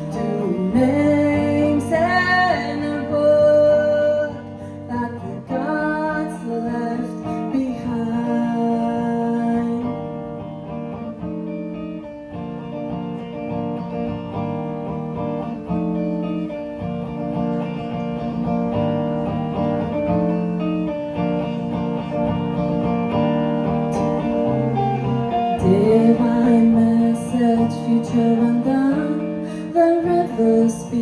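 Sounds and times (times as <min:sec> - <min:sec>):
guitar playing chords: 0:00.0 - 0:31.0.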